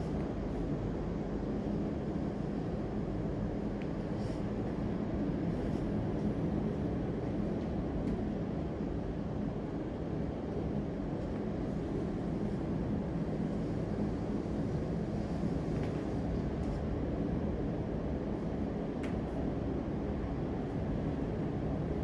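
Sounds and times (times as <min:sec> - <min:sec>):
faint constant hum: 0:00.0 - 0:22.0
low rumbling background noise: 0:00.0 - 0:22.0.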